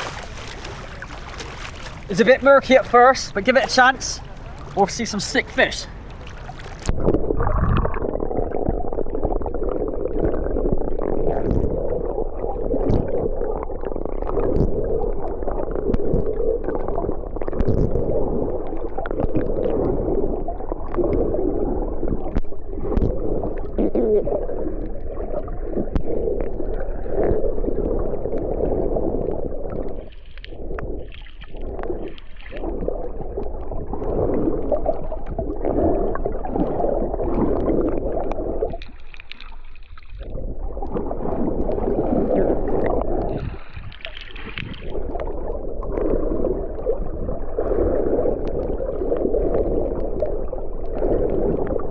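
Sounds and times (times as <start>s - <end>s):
underwater churning and bubbles: 0.0s - 51.9s.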